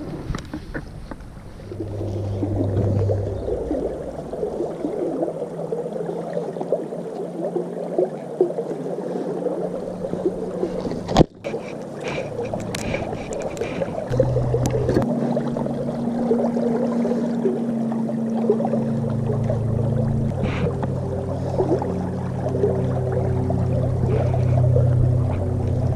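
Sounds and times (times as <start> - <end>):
river water gurgling over stones: 0.0 - 25.9.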